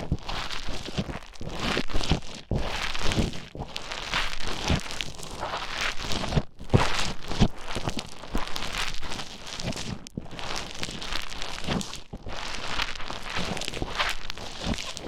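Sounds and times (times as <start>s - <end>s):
foam squelching and crackling: 0.0s - 15.0s.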